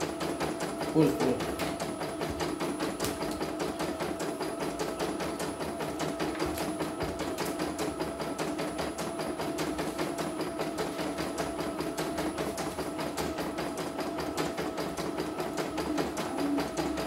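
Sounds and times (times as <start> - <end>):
embroidery machine motor hum: 0.0 - 17.0.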